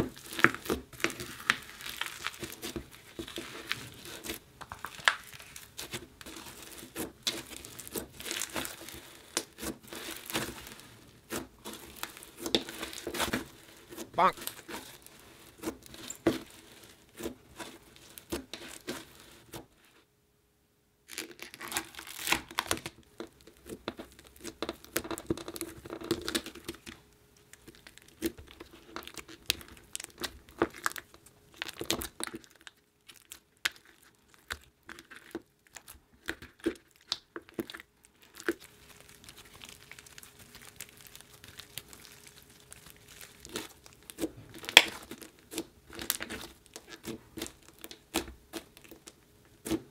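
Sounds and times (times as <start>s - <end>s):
hands kneading sticky slime: 0.0s - 20.0s, 21.1s - 49.9s.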